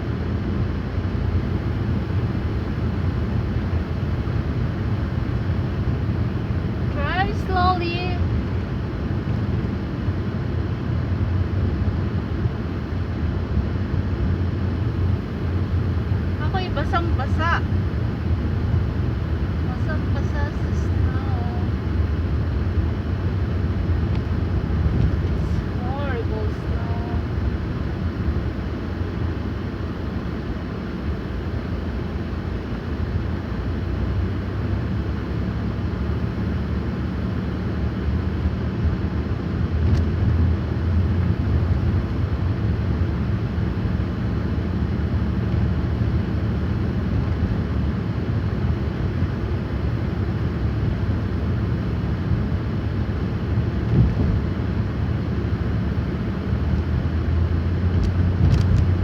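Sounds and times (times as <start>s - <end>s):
car driving on snowy road: 0.0s - 59.0s.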